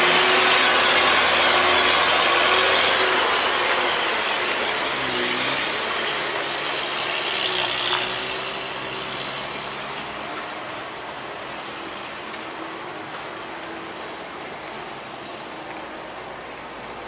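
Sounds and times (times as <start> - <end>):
truck engine under load: 0.0 - 17.0.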